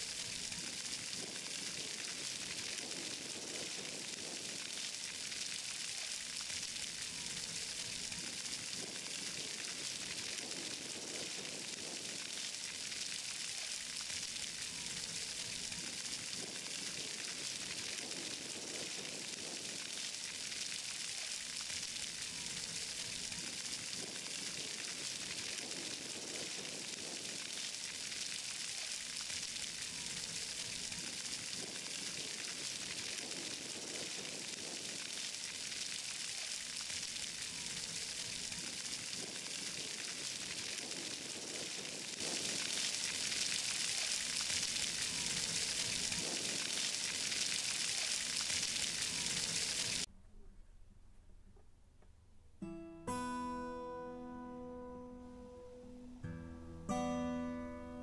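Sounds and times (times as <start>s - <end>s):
fountain water splashing on paving: 0.0s - 50.1s.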